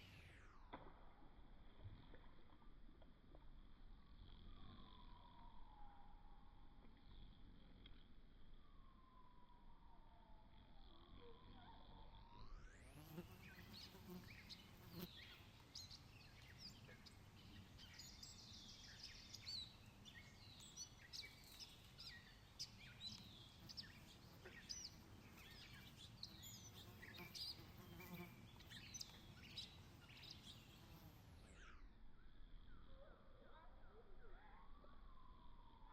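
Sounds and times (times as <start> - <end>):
songbirds chirping: 2.5 - 35.9.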